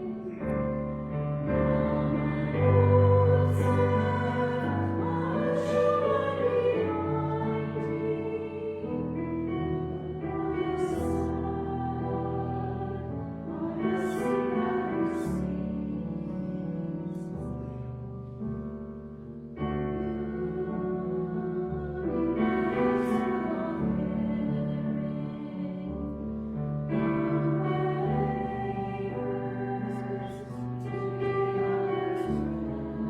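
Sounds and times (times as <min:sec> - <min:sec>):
piano accompaniment: 0:00.0 - 0:33.0.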